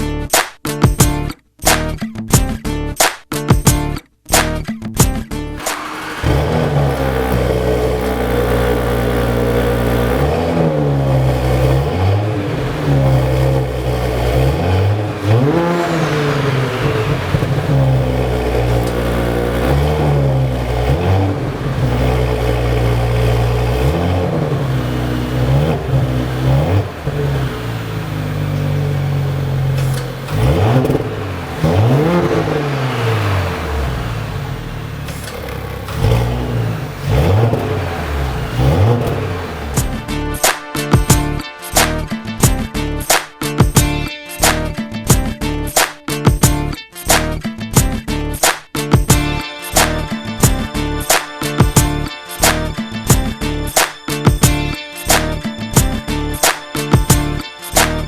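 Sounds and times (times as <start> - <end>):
car engine idling and revving: 5.3 - 46.6, 49.0 - 58.0.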